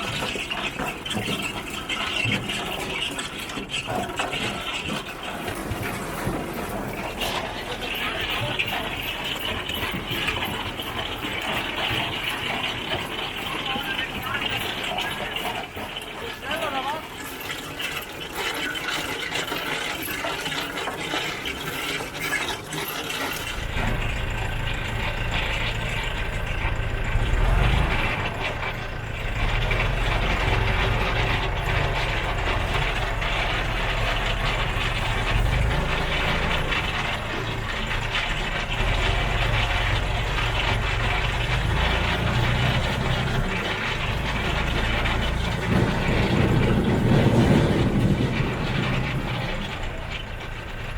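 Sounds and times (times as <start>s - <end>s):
harvester conveyors clattering: 0.0s - 50.9s
tractor engine drone: 0.0s - 50.9s.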